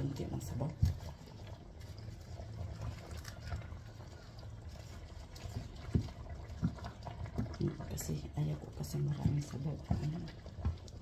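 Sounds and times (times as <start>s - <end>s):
wooden spoons stirring in a wok: 0.0s - 11.0s.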